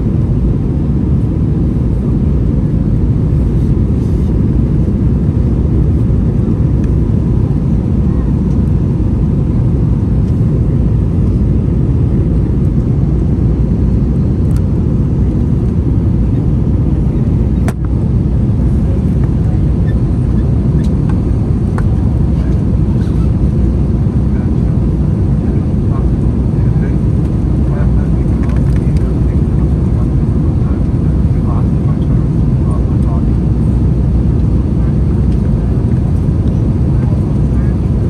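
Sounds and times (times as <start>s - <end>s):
airplane cabin engine roar: 0.0s - 38.0s.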